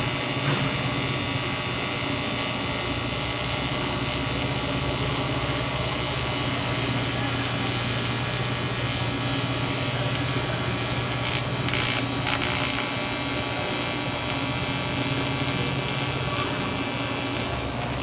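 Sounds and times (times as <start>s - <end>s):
welding arc buzzing: 0.0s - 18.0s.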